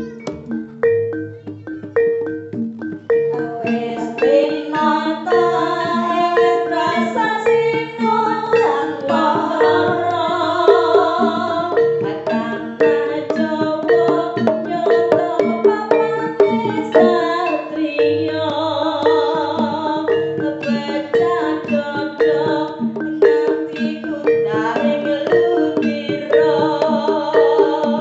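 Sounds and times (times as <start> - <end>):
drum strokes: 0.0 - 28.0
gamelan gongs and metallophones: 0.0 - 28.0.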